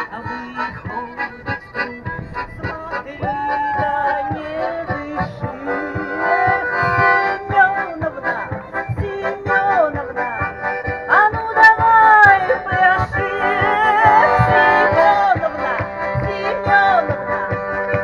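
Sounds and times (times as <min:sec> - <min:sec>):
instrumental accompaniment with beat: 0:00.0 - 0:18.0
person singing: 0:00.0 - 0:18.0.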